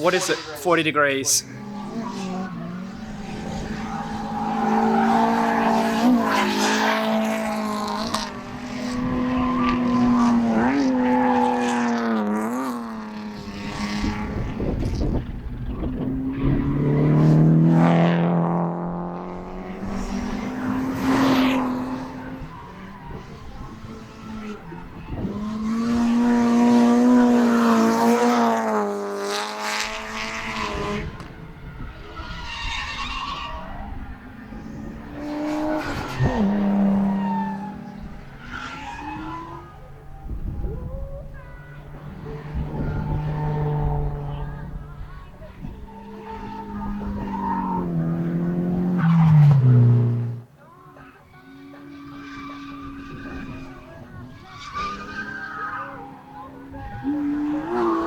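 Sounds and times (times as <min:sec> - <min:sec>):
car engine at high revs: 0:00.0 - 0:50.5, 0:51.2 - 0:58.0.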